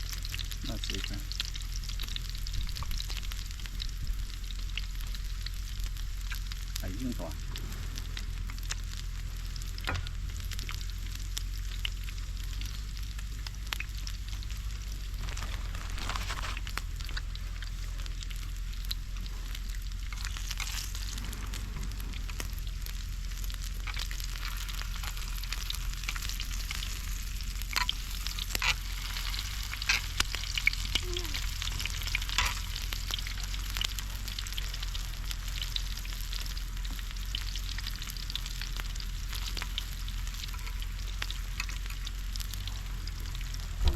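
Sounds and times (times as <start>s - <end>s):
food sizzling in a pan: 0.0s - 43.8s.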